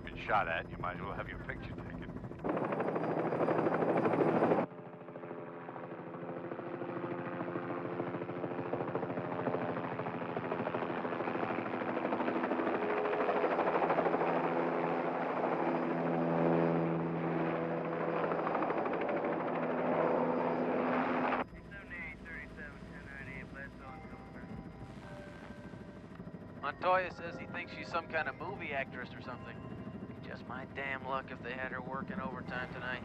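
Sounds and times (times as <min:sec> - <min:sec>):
helicopter droning: 0:00.0 - 0:33.0.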